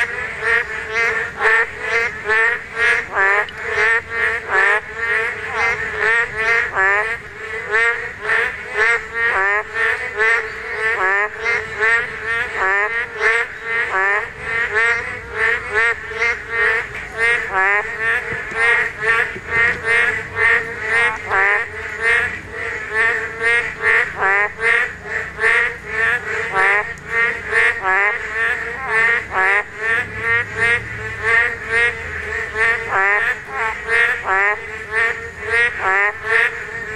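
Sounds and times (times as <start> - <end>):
frog chorus croaking: 0.0 - 36.9.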